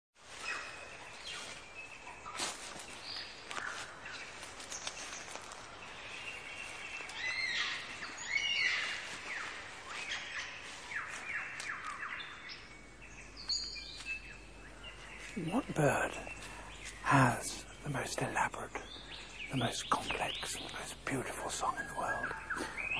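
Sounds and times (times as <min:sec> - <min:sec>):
wild birds calling: 0:00.2 - 0:22.9
faint background hiss: 0:00.3 - 0:22.9.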